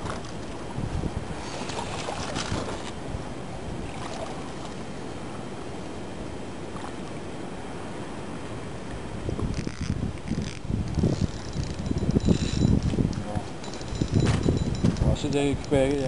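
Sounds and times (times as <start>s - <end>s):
water noise: 0.0s - 16.0s
wind: 0.0s - 16.0s.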